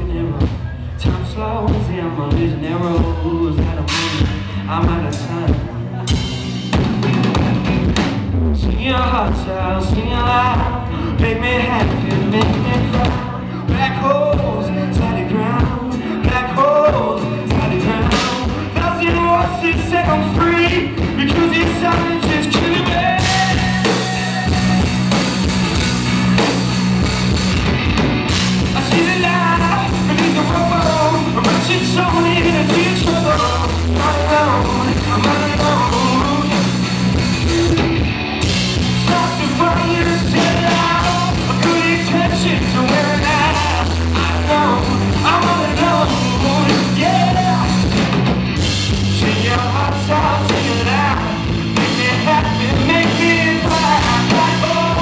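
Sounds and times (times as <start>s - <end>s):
person singing lead vocal: 0.0s - 7.3s, 8.6s - 25.6s, 28.3s - 55.0s
rock band playing live: 0.0s - 55.0s.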